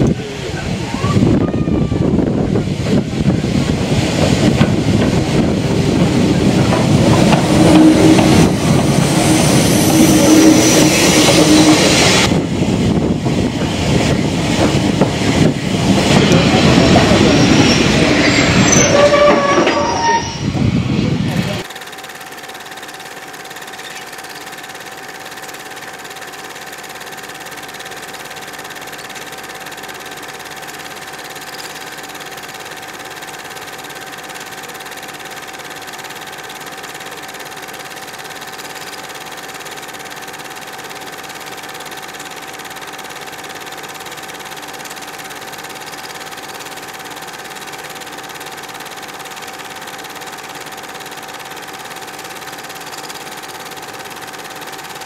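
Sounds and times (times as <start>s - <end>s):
steam train mechanical drone: 0.0s - 55.0s.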